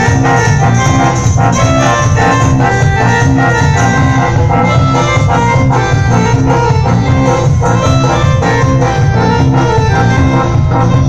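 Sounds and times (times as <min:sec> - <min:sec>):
bass: 0:00.0 - 0:11.0
drum kit dance beat: 0:00.0 - 0:11.0
organ-like keyboard: 0:00.0 - 0:11.0.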